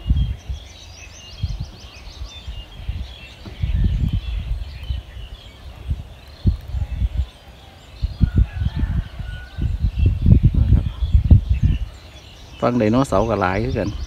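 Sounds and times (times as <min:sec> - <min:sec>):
small birds chirping: 0:00.0 - 0:14.0
wind buffeting microphone: 0:00.0 - 0:14.0.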